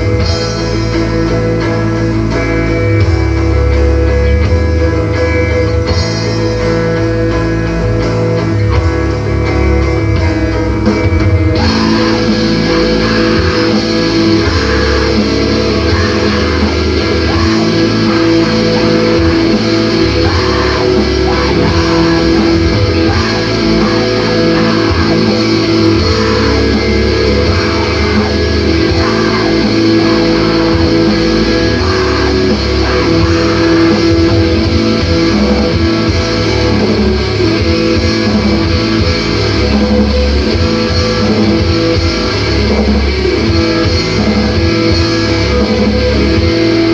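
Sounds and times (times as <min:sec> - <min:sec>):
screamo band playing: 0:00.0 - 0:46.9.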